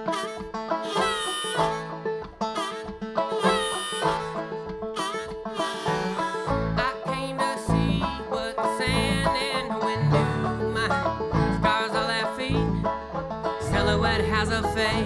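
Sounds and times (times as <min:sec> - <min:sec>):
banjo picked rapidly: 0:00.0 - 0:15.0
bass line: 0:00.0 - 0:15.0.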